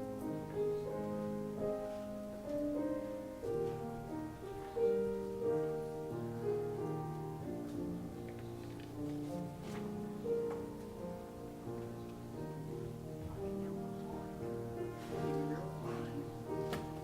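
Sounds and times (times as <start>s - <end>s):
slow piano-like keyboard music: 0.0s - 17.0s.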